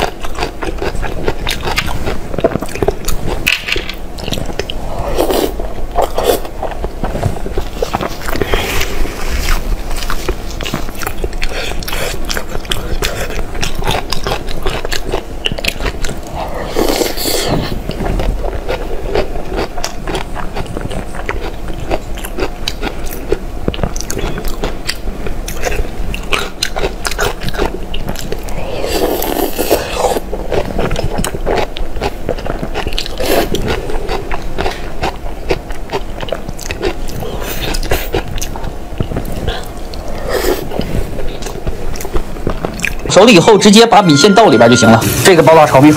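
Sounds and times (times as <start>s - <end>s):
wet chewing and biting: 0.0s - 43.1s.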